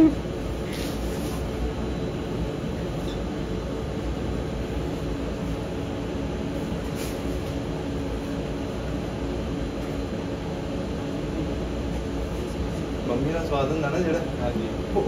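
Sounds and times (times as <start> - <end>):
kitchen machinery whirring hum: 0.0 - 15.0.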